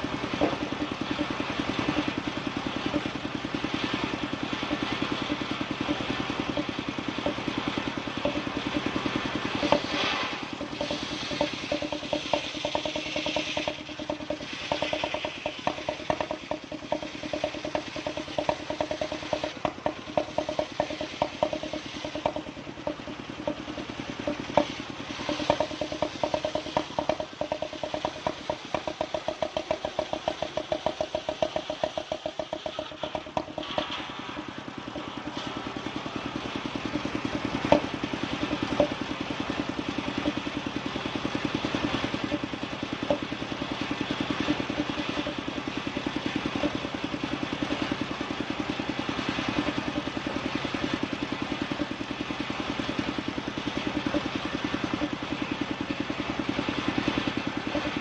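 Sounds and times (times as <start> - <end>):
sawing machine engine running: 0.0 - 58.0.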